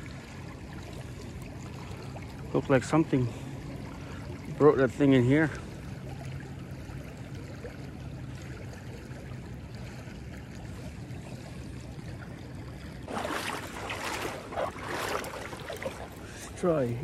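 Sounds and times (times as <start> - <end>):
creek water flowing over rocks: 0.0 - 17.0.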